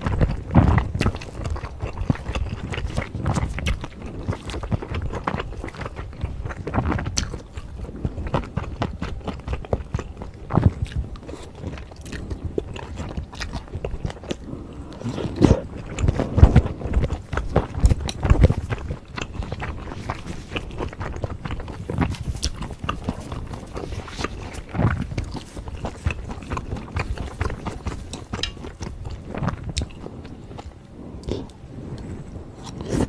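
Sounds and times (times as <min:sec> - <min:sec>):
wet chewing: 0:00.0 - 0:33.0.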